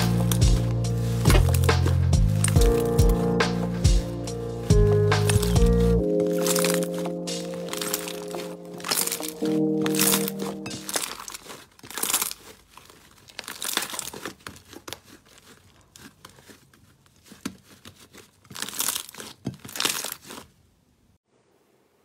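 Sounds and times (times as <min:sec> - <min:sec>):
slime crackling and popping: 0:00.0 - 0:03.8, 0:04.7 - 0:20.6.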